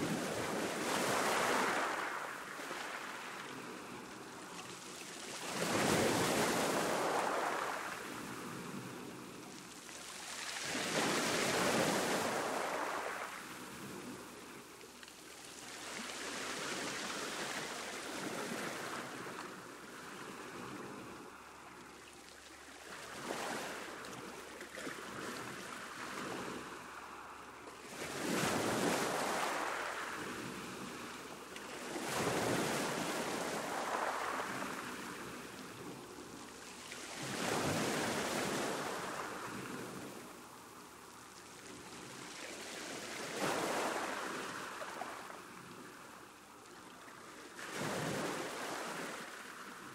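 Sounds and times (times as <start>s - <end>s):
ocean waves breaking on a beach: 0.0s - 49.9s.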